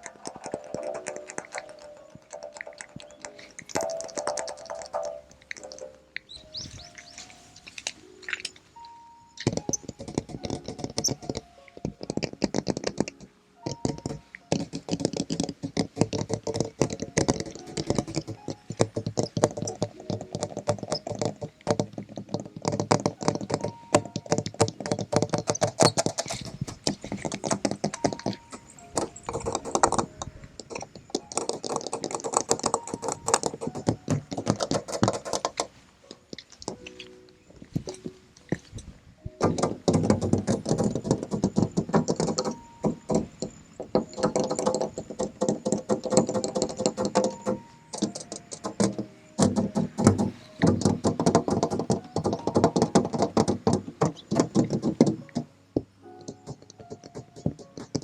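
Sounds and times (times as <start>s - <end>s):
ringing tones: 0.0s - 15.7s, 22.6s - 55.4s
fingertips tapping on metal: 0.0s - 58.0s.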